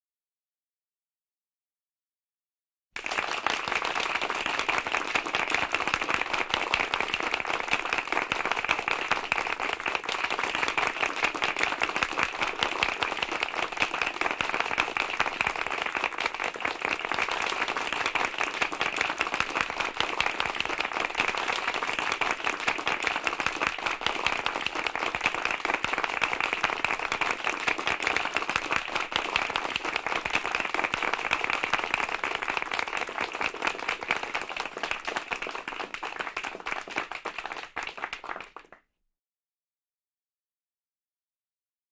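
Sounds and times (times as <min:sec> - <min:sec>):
crowd applauding: 0:03.0 - 0:38.8.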